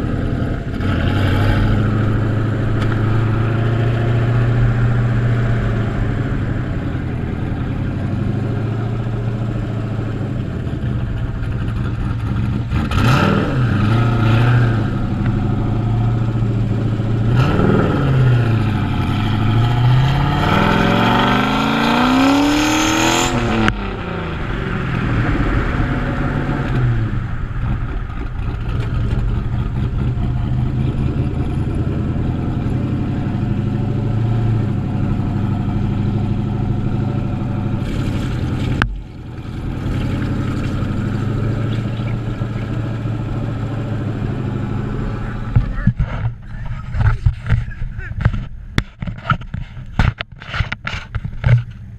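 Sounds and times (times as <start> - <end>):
car engine revving: 0.0 - 49.4.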